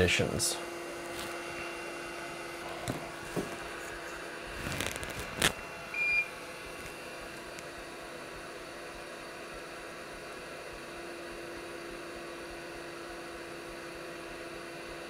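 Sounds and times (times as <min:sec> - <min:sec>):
fan hiss: 0:00.0 - 0:15.0.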